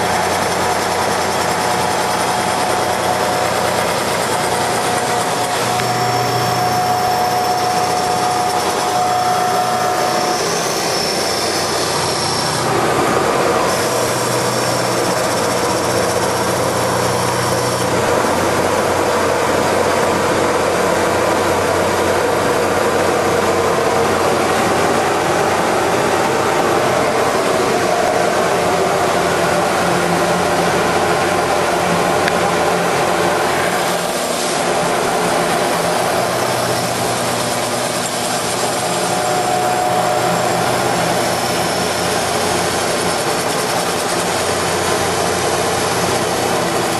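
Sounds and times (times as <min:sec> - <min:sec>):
lathe running: 0:00.0 - 0:46.9
thin steady whine: 0:00.0 - 0:46.9.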